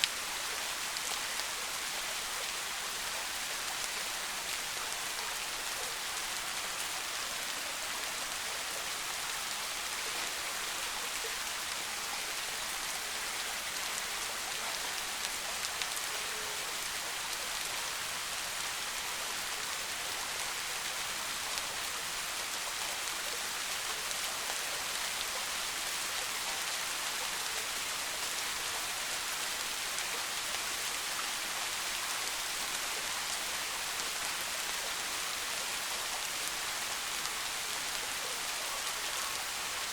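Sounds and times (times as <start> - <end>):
soft rain in a forest: 0.0 - 39.9.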